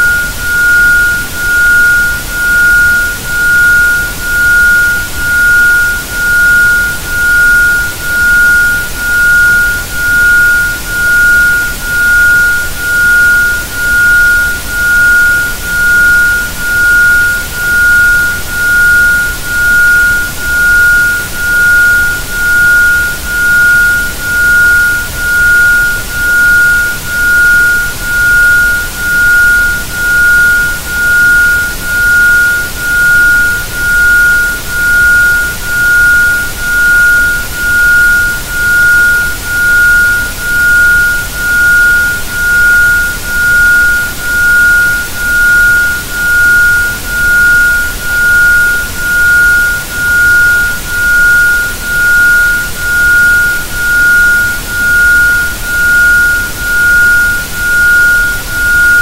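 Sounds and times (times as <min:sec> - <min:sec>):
pulsing sine tone: 0:00.0 - 0:59.0.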